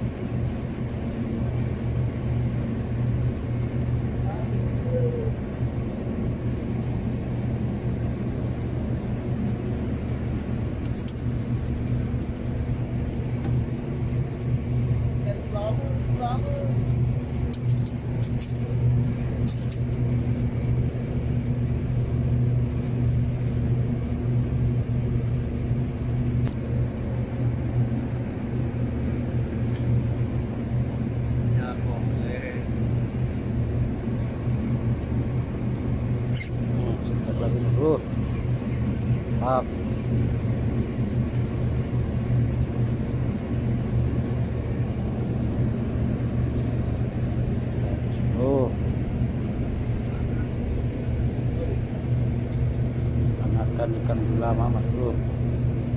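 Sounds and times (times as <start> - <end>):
ship engine idling: 0.0 - 55.9.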